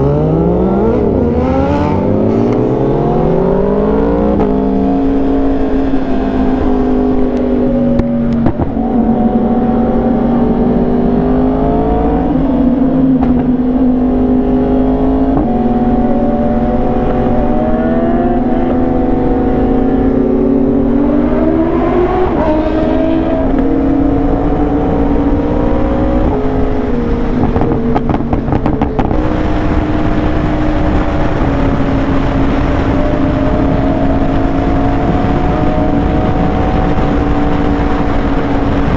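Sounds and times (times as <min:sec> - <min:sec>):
motorcycle engine revving: 0:00.0 - 0:38.9
wind rushing: 0:00.0 - 0:38.9.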